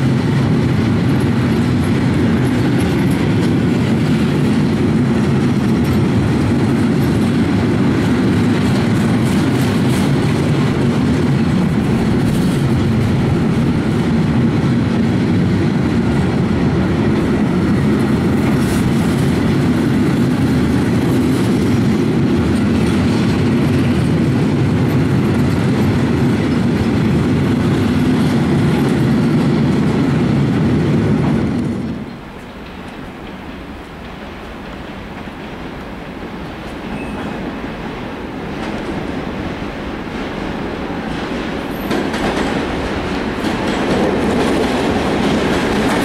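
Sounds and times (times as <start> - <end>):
train wheels on rails: 0.0 - 46.0.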